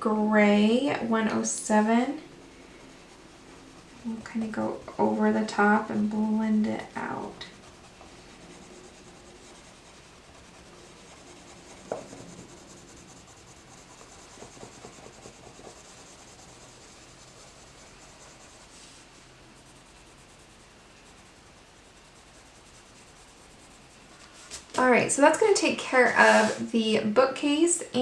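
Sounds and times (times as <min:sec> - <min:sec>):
colored pencil scratching on paper: 0:00.5 - 0:26.7.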